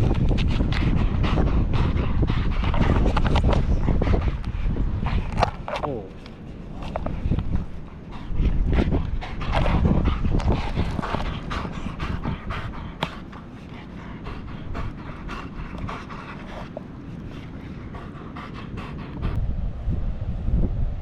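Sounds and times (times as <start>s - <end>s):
dog panting: 0.0s - 5.6s, 6.3s - 19.4s.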